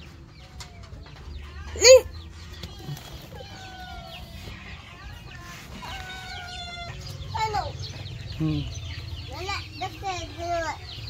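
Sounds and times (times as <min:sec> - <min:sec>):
chickens clucking: 0:00.0 - 0:11.0
drawn-out chicken calls: 0:00.0 - 0:11.0.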